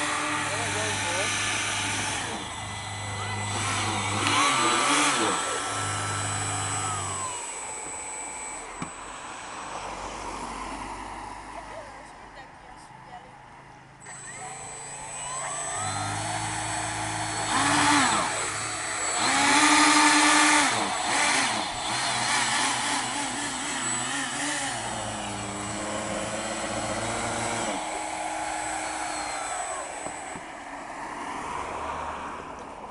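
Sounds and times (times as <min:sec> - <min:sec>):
model hovercraft whirring hum: 0:00.0 - 0:12.0, 0:14.0 - 0:31.5.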